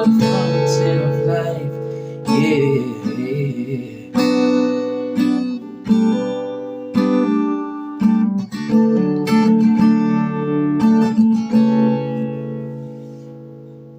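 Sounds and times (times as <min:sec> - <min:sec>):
acoustic guitar strumming chords: 0:00.0 - 0:13.9.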